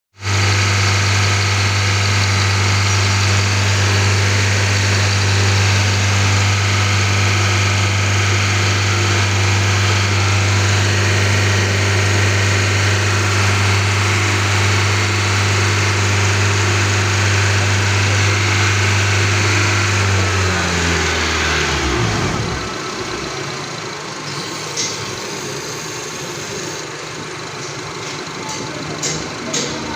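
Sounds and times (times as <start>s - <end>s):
car engine idling: 0.2s - 29.9s
engine drive belt noise: 0.2s - 29.9s.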